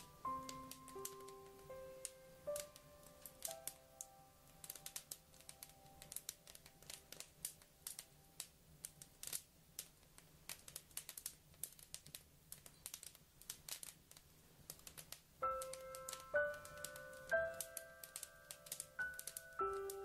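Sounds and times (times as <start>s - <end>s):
faint crackling clicks: 0.0s - 20.0s
quiet held music notes: 0.0s - 20.0s.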